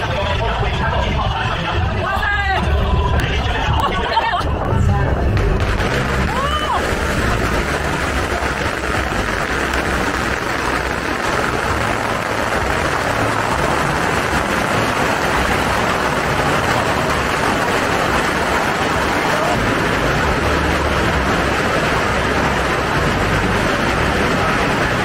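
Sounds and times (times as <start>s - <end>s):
firecrackers crackling: 0.0s - 1.8s, 2.8s - 25.0s.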